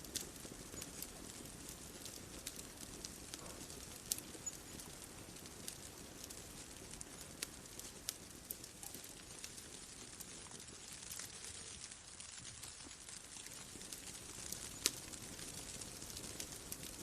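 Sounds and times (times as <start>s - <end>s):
bonfire pops and snaps: 0.0s - 17.0s
soft steady hiss: 0.0s - 17.0s.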